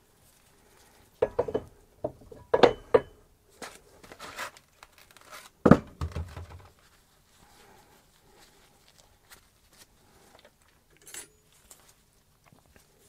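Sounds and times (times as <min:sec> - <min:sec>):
rustling: 0:00.0 - 0:01.9, 0:02.8 - 0:13.0.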